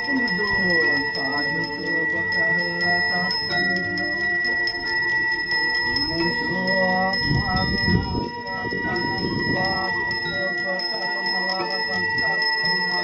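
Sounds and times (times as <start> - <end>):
bell ringing rapidly: 0.0 - 13.0.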